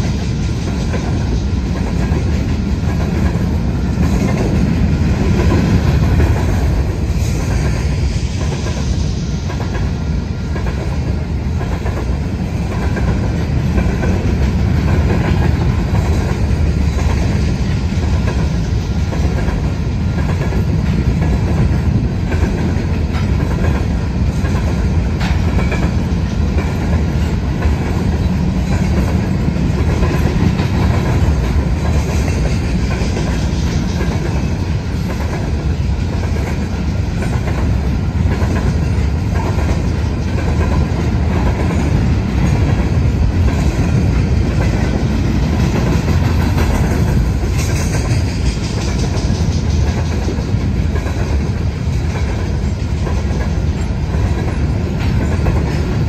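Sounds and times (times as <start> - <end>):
freight train rumbling past: 0.0 - 56.0
wheel clacks on rails: 9.5 - 56.0.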